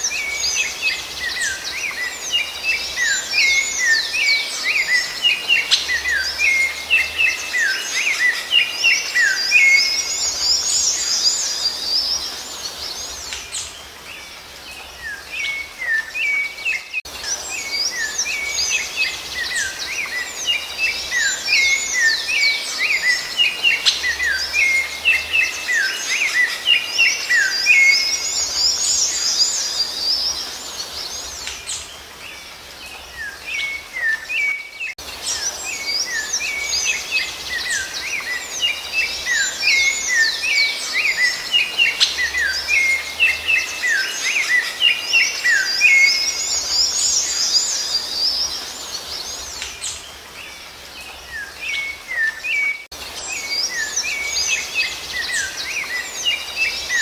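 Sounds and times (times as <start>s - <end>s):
thrush singing whistled notes: 0.0s - 57.0s.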